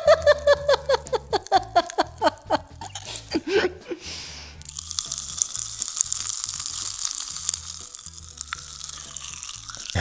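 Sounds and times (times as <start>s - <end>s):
popping candy crackling in mouth: 0.0s - 3.3s, 4.6s - 10.0s.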